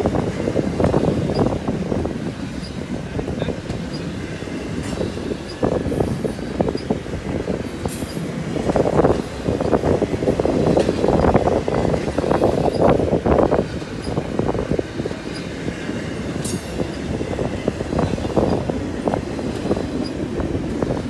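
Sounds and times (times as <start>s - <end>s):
freight train rolling past: 0.0s - 21.0s
knocks and rattles of train cars: 0.0s - 21.0s.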